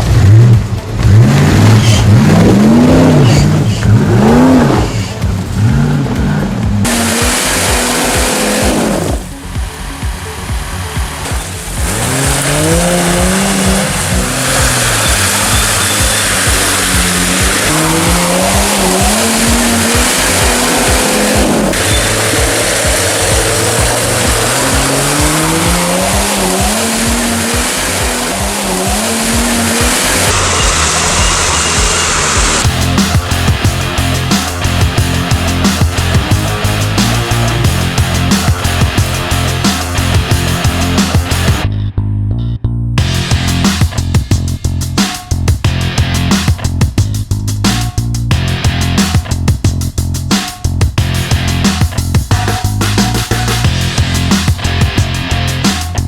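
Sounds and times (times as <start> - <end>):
engine revving hard: 0.0 - 41.7, 43.0 - 56.0
background music: 0.0 - 56.0.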